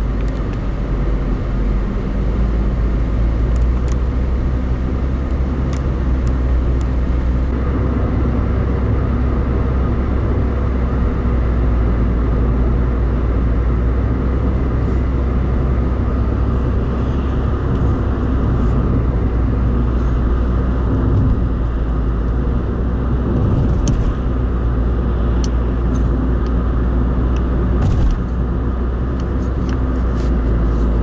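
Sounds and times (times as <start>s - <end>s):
car cabin road noise: 0.0s - 31.0s.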